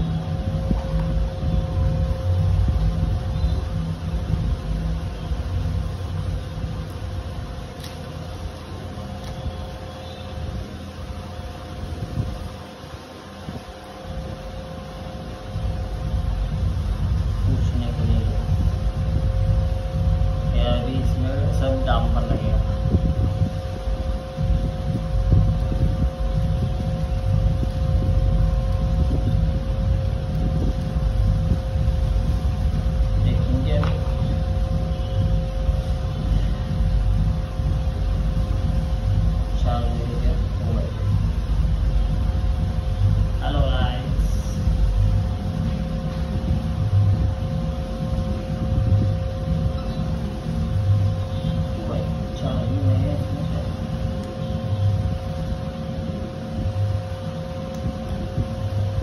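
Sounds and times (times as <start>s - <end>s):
mid-pitched tone: 0.0s - 7.2s, 13.5s - 59.0s
faint steady hum: 0.0s - 59.0s
low background rumble: 0.0s - 59.0s.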